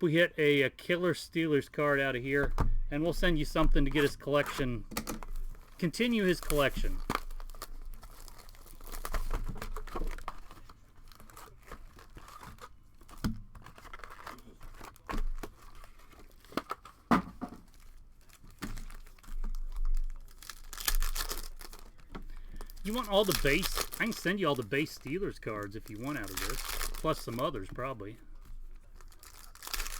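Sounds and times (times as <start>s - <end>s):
crinkling plastic wrap and foil: 3.8s - 29.9s
packaging being torn open: 4.0s - 17.0s, 17.7s - 28.0s, 28.8s - 29.9s.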